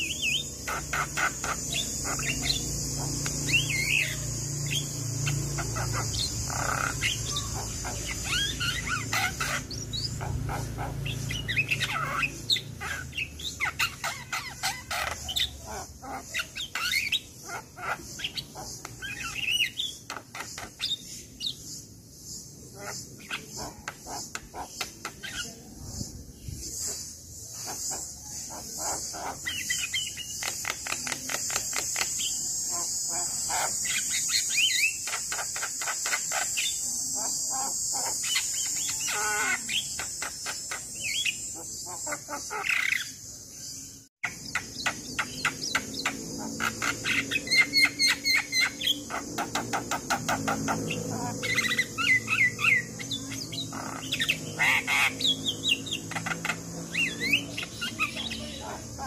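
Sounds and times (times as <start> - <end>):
bird singing varied song: 0.0 - 59.0
high insect buzz: 0.0 - 59.0.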